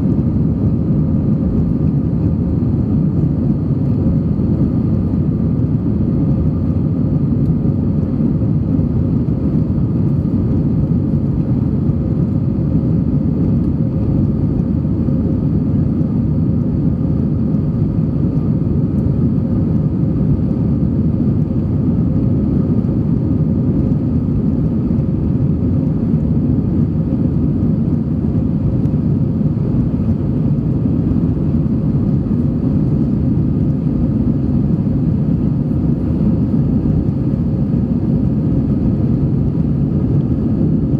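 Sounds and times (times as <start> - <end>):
faint steady hum: 0.0 - 40.9
jet engine rumble in cabin: 0.0 - 40.9.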